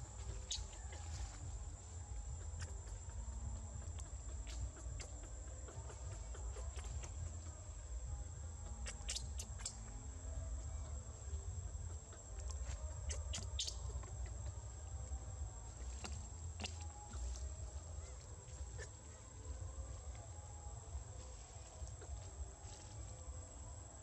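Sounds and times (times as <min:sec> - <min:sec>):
high-pitched insect drone: 0:00.0 - 0:24.0
low outdoor rumble: 0:00.0 - 0:24.0.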